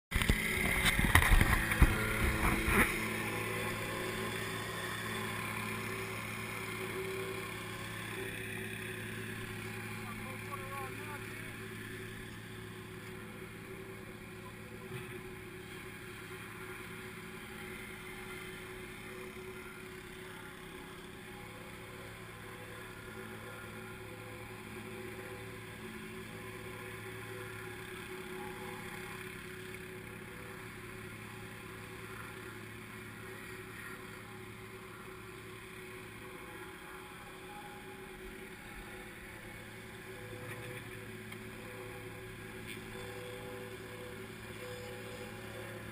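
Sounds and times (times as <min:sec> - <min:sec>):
plate compactor engine drone: 0:00.1 - 0:45.9.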